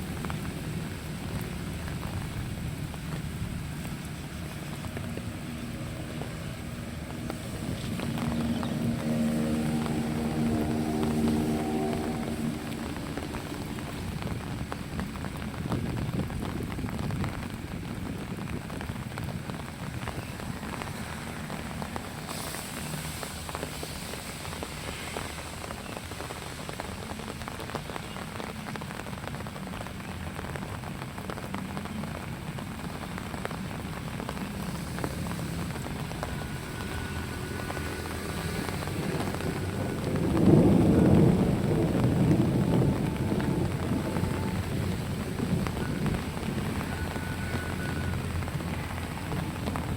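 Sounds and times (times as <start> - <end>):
low rumble: 0.0 - 25.8, 32.1 - 49.9
rain falling: 0.0 - 49.9.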